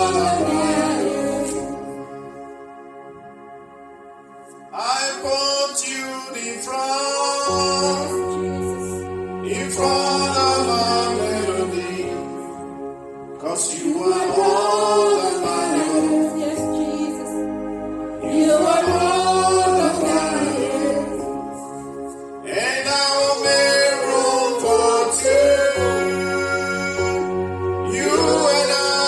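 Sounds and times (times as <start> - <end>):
choir singing gospel: 0.0 - 3.5, 4.5 - 29.0.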